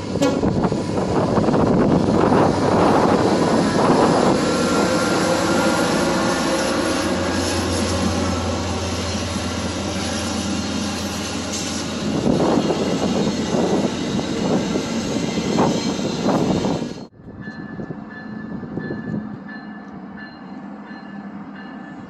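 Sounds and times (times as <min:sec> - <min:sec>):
passenger train passing: 0:00.0 - 0:22.0.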